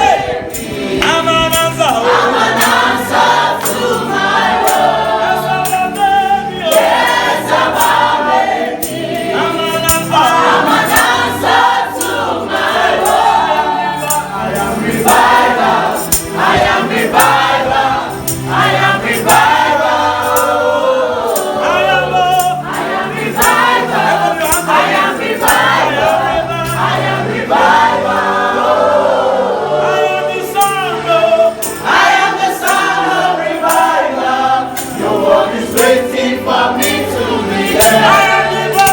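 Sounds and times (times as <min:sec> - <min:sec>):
instrumental backing with beat: 0:00.0 - 0:29.8, 0:30.5 - 0:38.9
choir singing gospel song: 0:00.0 - 0:38.9.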